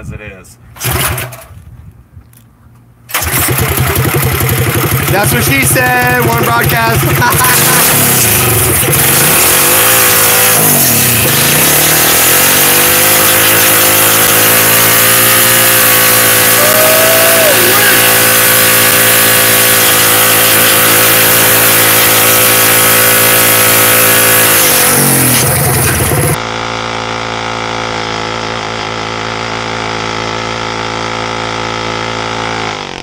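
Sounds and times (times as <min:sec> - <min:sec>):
mini bike engine revving: 0:00.8 - 0:01.5, 0:03.1 - 0:33.0
tire spinning on concrete: 0:03.1 - 0:33.0.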